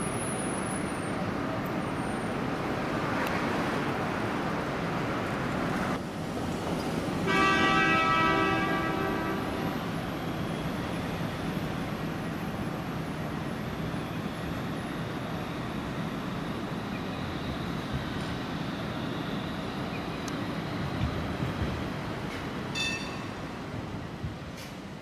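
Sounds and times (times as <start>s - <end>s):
vehicle rumbling along street: 0.0s - 25.0s.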